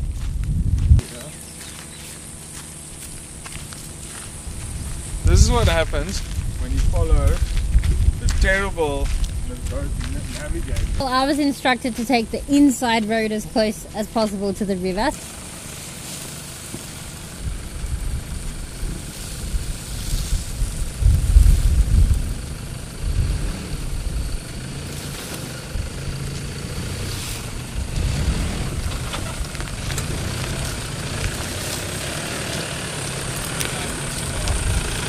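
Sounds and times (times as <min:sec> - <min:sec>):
diesel engine rumbling at low revs: 0:00.0 - 0:35.0.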